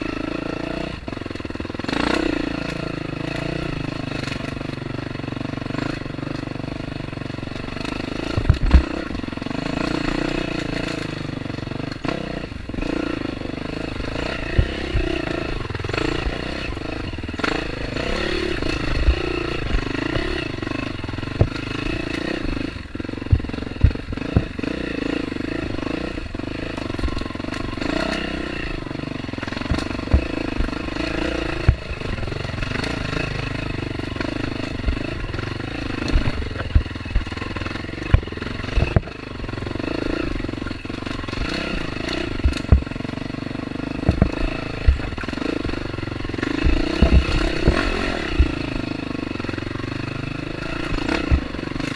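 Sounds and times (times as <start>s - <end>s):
dirt bike engine: 0.0s - 51.9s
bike knocking and clattering: 5.5s - 51.9s.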